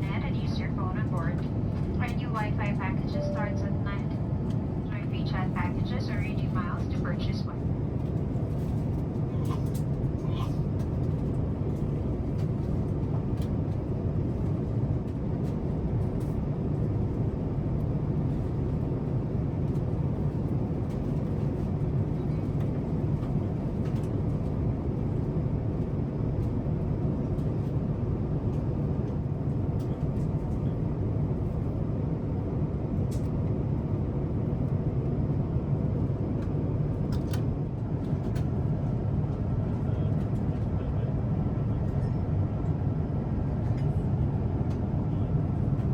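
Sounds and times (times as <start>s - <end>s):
aircraft cabin engine rumble: 0.0s - 45.9s.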